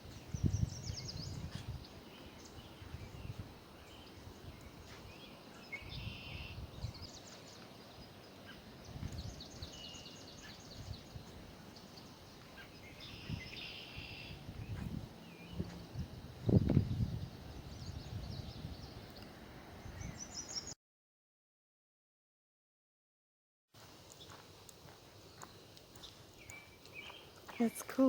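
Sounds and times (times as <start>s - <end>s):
small birds singing: 0.0s - 20.8s, 24.0s - 28.0s.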